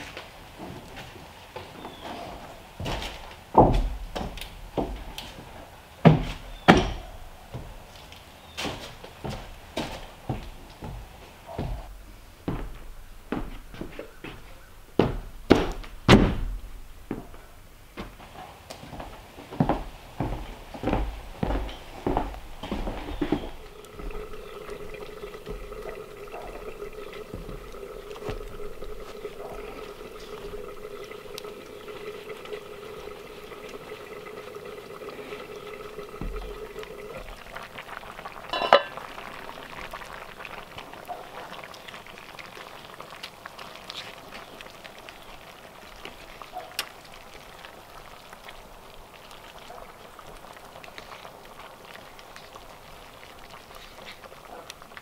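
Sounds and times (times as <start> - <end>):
liquid bubbling in a pot: 1.8 - 12.0, 19.7 - 55.0.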